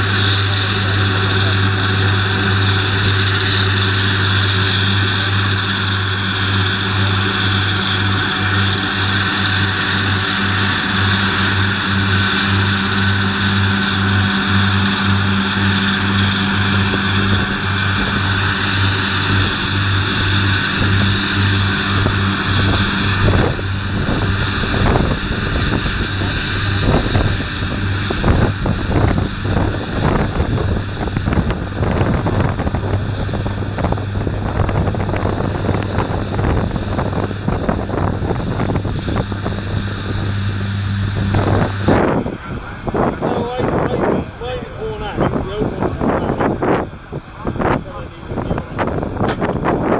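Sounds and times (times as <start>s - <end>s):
tractor diesel engine running: 0.0s - 49.9s
wind buffeting microphone: 0.0s - 49.9s.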